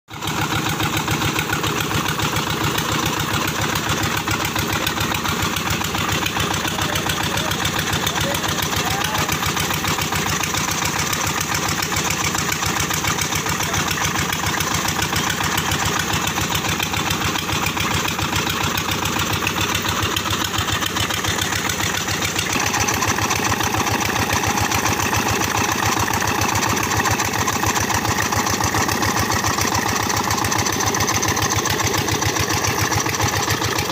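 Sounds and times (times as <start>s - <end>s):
stationary diesel engine running: 0.1s - 33.9s.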